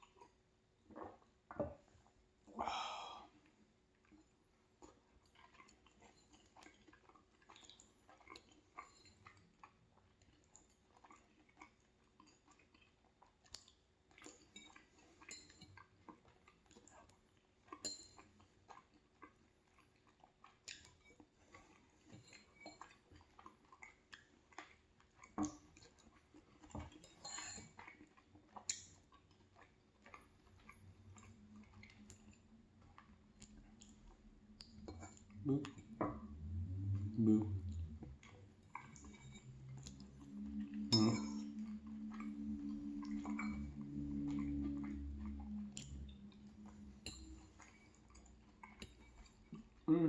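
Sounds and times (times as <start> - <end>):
faint chewing: 0.0 - 50.0.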